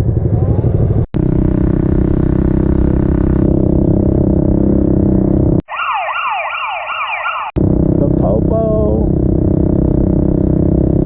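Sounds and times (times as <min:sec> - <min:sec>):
pit bike engine running: 0:00.0 - 0:05.6, 0:07.6 - 0:11.0.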